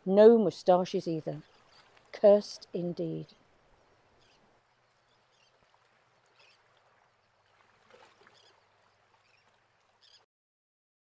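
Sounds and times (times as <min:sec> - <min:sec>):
faint outdoor ambience: 0:00.0 - 0:10.2.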